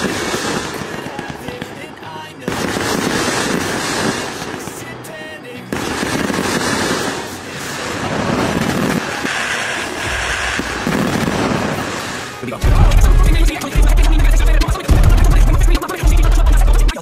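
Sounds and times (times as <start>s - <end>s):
background music: 0.0s - 17.0s
fireworks bursting and crackling: 0.0s - 17.0s.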